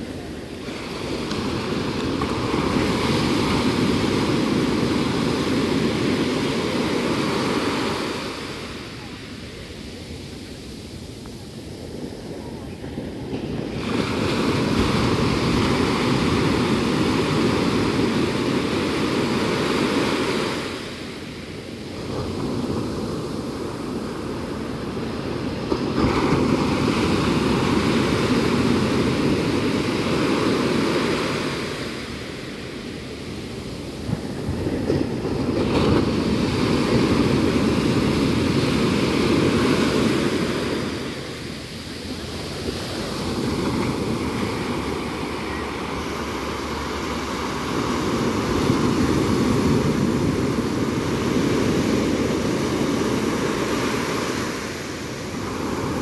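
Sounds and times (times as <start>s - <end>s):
ocean waves crashing on beach: 0.0s - 56.0s.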